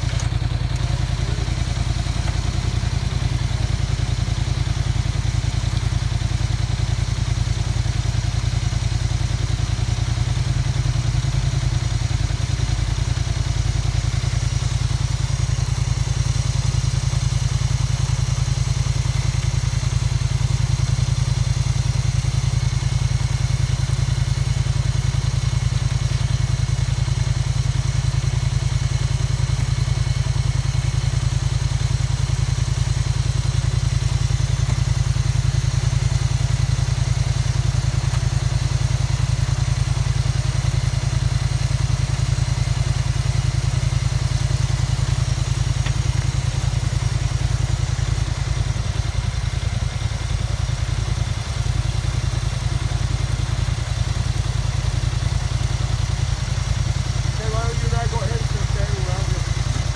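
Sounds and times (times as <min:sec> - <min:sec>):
atv engine idling: 0:00.0 - 0:59.9.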